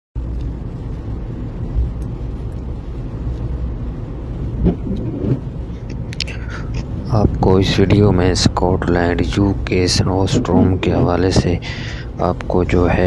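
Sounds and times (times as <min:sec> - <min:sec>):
car engine and tyre rumble: 0:00.2 - 0:13.0.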